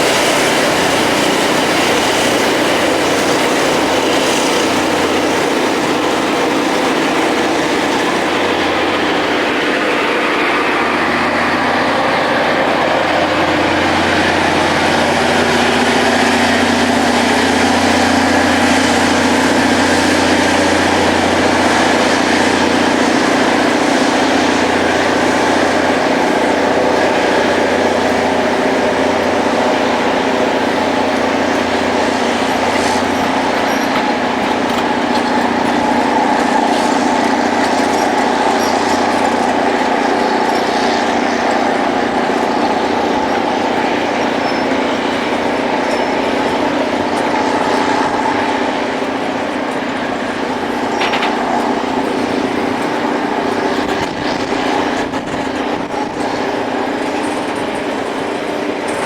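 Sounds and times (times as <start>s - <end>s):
loud grinding hiss of stones: 0.0s - 9.4s, 12.3s - 53.6s
rail grinding machine engines: 0.0s - 59.0s.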